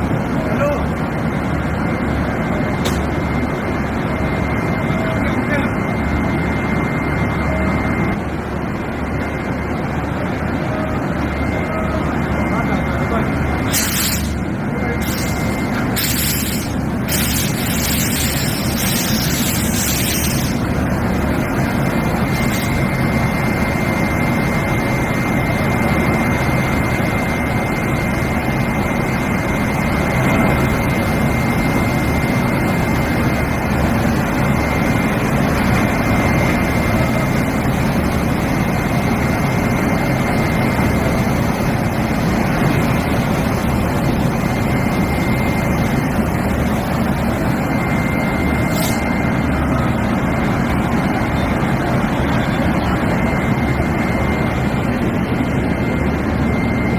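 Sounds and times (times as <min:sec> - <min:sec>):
locomotive running: 0:00.0 - 0:56.9
thin high whine: 0:00.0 - 0:56.9.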